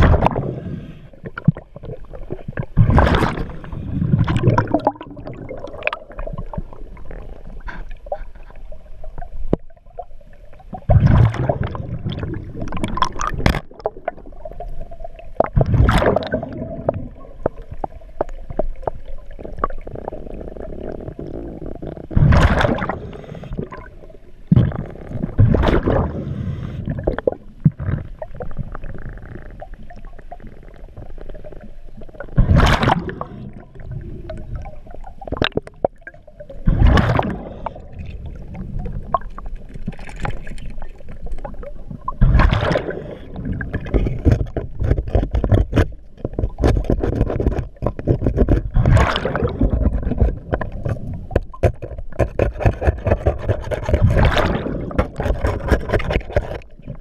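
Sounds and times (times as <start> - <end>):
bubbling bursts of exhaled air: 0.0 - 8.4, 10.7 - 40.8, 41.4 - 44.8, 48.6 - 51.6, 54.0 - 55.7
churning water underwater: 0.0 - 57.0.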